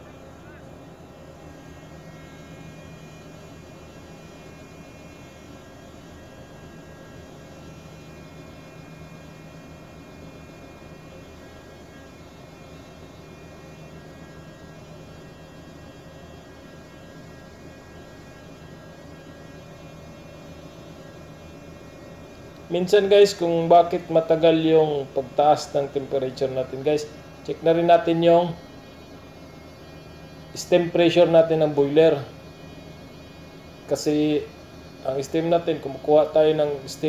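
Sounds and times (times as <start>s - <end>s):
engine room machinery hum: 0.0s - 37.0s.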